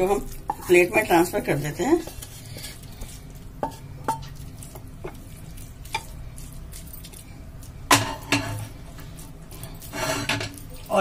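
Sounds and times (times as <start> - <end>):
spatula scraping pan: 0.0 - 6.8, 7.7 - 11.0.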